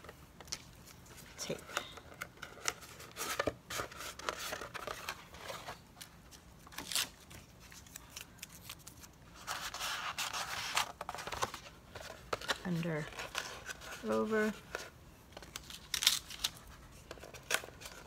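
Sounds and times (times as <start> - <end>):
cardboard rustling: 0.8 - 18.0.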